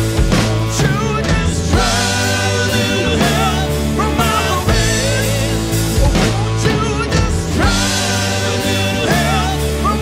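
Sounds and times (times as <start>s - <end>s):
man singing lead vocal: 0.0s - 10.0s
rock band playing live: 0.0s - 10.0s.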